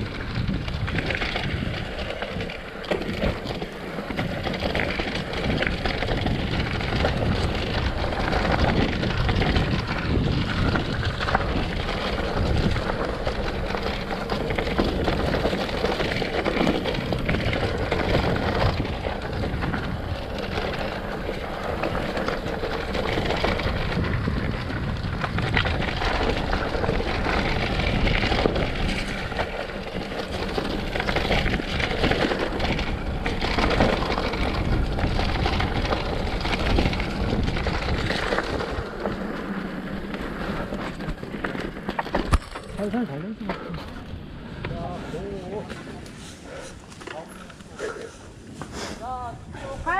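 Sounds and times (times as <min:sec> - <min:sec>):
bike rattling: 0:00.0 - 0:49.9
tyres rolling over dirt: 0:00.0 - 0:49.9
wind buffeting microphone: 0:00.0 - 0:49.9.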